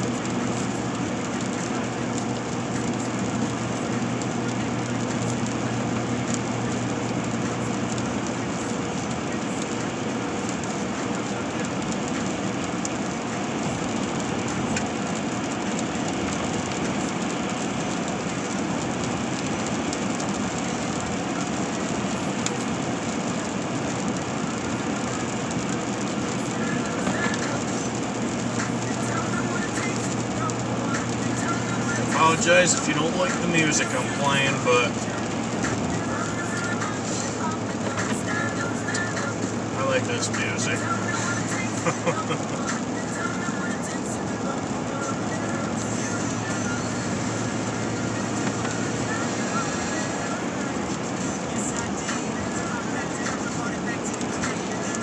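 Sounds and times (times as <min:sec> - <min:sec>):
tyres hissing on wet pavement: 0:00.0 - 0:55.0.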